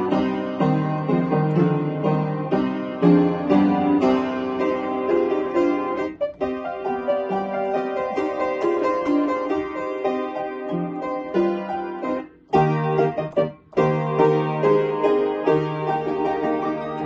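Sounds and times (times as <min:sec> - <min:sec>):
piano playing chords and melody: 0:00.0 - 0:17.0.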